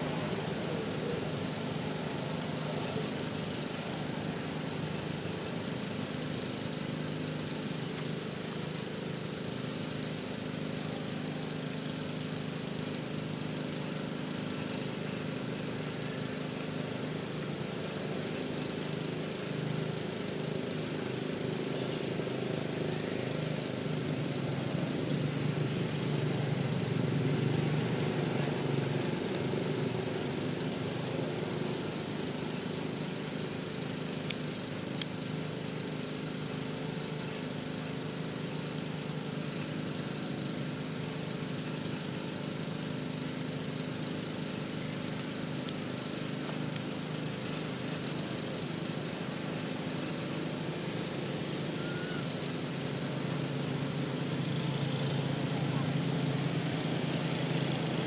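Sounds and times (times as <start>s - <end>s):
small engine droning: 0.0s - 58.0s.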